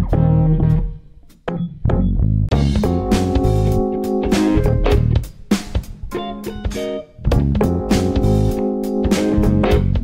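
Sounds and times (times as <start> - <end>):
bass line: 0.0 - 10.0
plucked guitar: 0.0 - 10.0.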